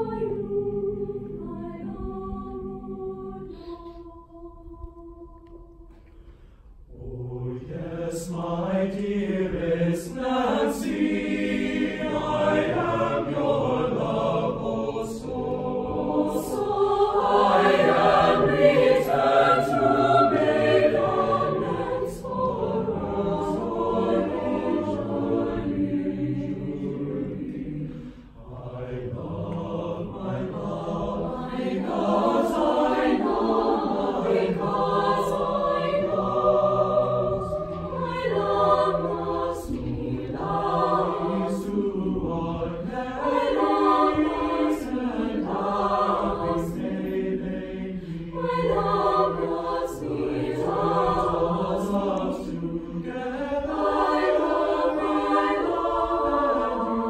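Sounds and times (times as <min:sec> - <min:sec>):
mixed-voice choir singing: 0:00.0 - 0:57.0.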